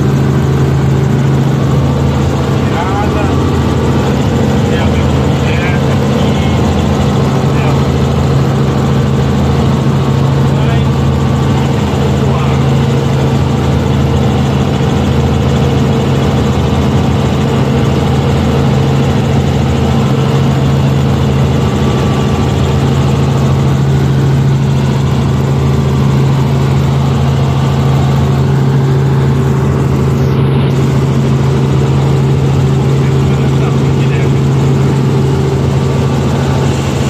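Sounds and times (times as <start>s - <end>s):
helicopter engine and rotor drone: 0.0s - 37.0s.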